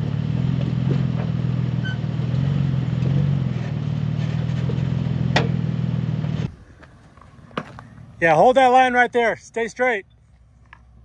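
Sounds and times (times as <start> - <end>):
suv engine crawling: 0.0 - 11.0.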